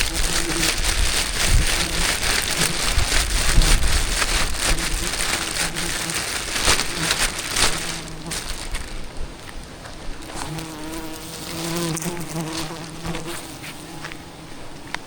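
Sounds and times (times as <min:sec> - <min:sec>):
swarm of bees buzzing: 0:00.0 - 0:09.2, 0:10.2 - 0:14.9
crackling patter: 0:00.0 - 0:14.2.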